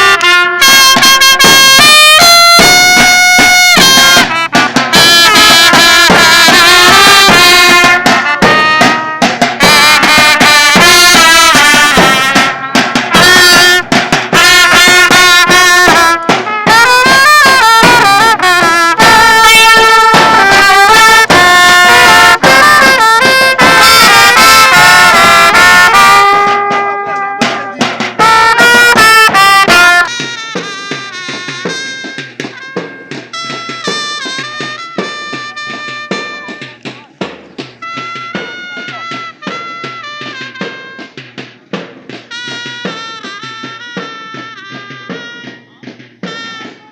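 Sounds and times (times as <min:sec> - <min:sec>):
brass band playing: 0:00.0 - 0:46.9.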